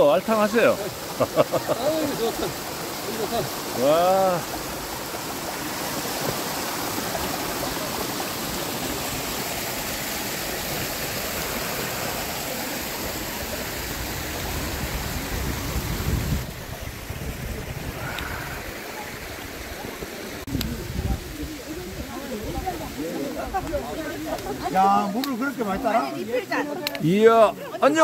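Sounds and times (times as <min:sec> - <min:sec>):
stream cascading over rocks: 0:00.0 - 0:28.0.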